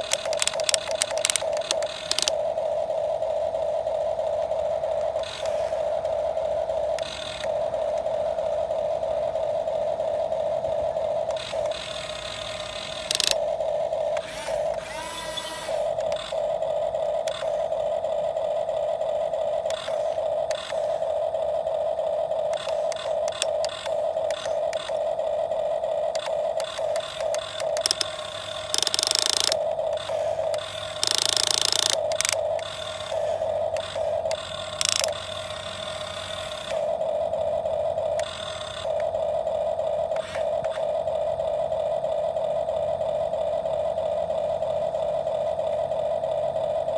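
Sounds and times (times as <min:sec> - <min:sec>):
small electric motors whining: 0:00.0 - 0:46.9.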